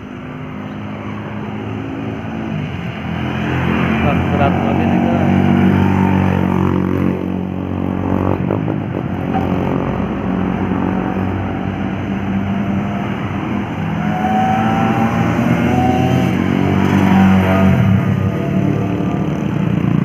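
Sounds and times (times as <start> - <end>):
diesel engine pulling hard: 1.4 - 20.0.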